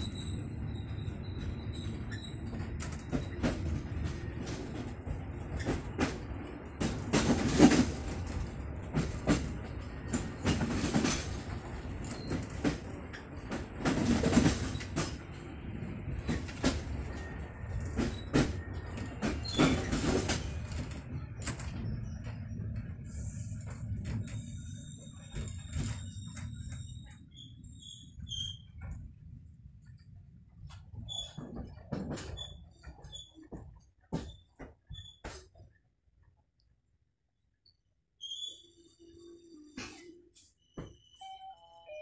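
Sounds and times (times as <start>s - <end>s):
train rumbling on rails: 0.0s - 35.7s.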